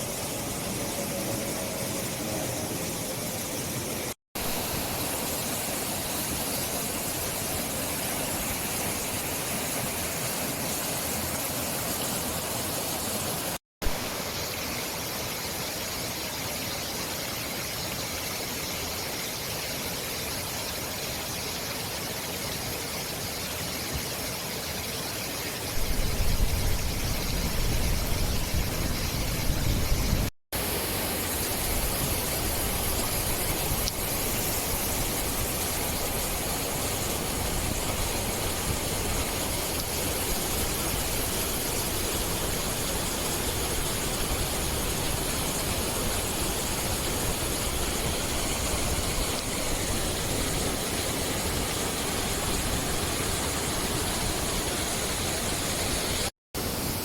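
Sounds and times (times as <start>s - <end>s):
outdoor hiss: 0.0s - 57.0s.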